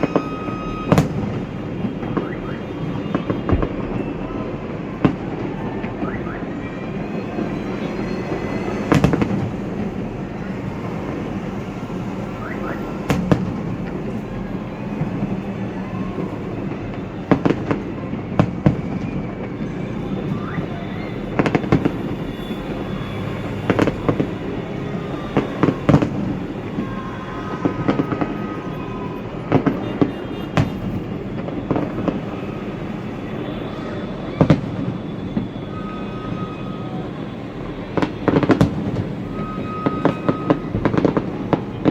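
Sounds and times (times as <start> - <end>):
faint firework whistles: 0.0 - 41.9
fireworks exploding: 0.0 - 41.9.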